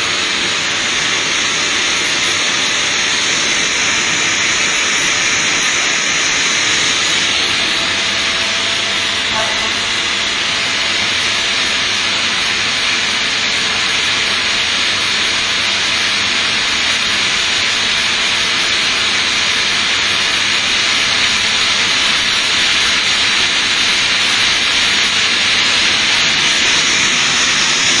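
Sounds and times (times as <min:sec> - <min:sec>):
factory machinery hiss: 0:00.0 - 0:28.0.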